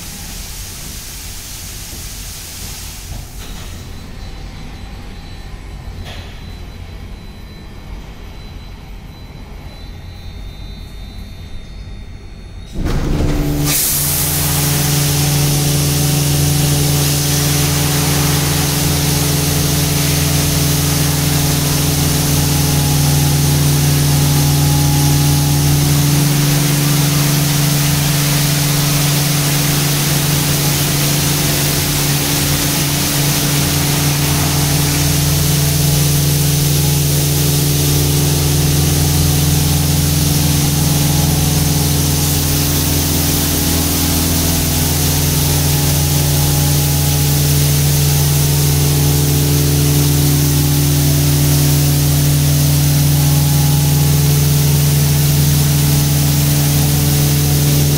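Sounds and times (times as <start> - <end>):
water jets hissing: 0.0 - 3.4, 13.5 - 57.9
high-pressure pump humming: 0.0 - 5.4, 12.7 - 57.9.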